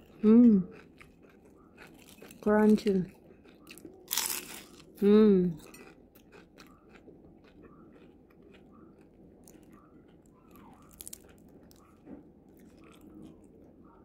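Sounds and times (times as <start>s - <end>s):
person chewing crispy food: 0.0s - 14.0s.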